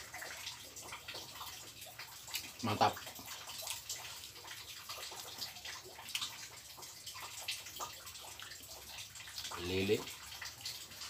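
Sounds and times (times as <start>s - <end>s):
small eating clicks: 0.0s - 11.0s.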